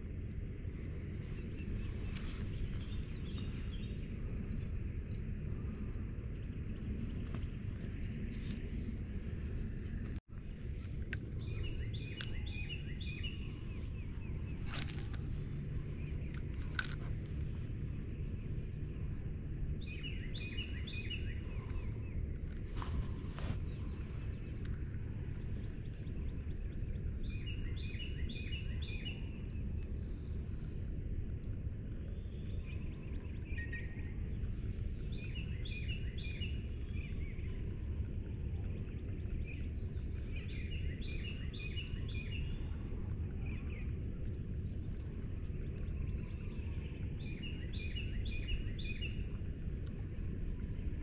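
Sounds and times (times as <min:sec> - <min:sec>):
low outdoor rumble: 0:00.0 - 0:51.0
songbird singing: 0:00.0 - 0:51.0.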